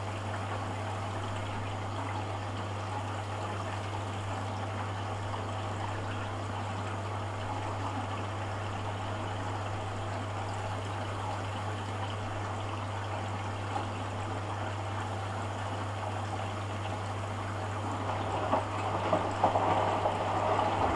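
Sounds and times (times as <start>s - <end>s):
water running in washing machine: 0.0s - 20.9s.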